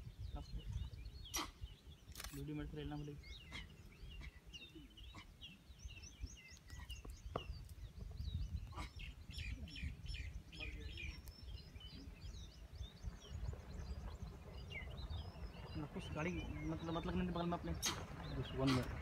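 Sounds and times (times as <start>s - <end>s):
small birds chirping: 0.0s - 19.0s
steady low rumble: 3.0s - 19.0s.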